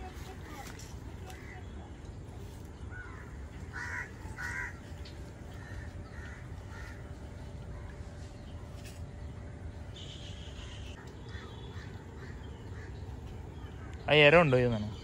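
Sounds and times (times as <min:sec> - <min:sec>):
bird calling: 0:00.0 - 0:15.0
low background noise: 0:00.0 - 0:15.0.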